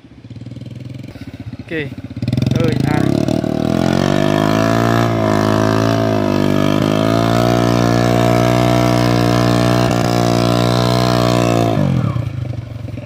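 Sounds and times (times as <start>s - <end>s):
small motorcycle engine revving: 0.0s - 13.0s.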